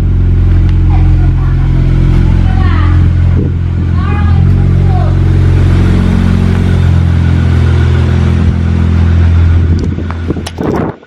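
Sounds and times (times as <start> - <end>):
car engine idling loudly: 0.0 - 11.0.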